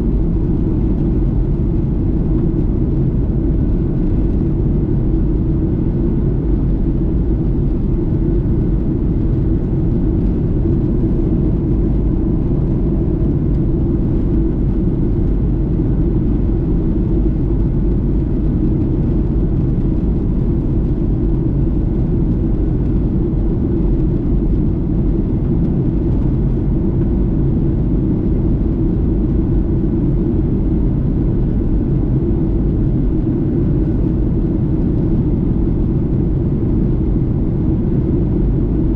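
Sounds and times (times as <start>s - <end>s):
airliner cabin roar: 0.0s - 38.9s
faint steady hum: 0.0s - 38.9s.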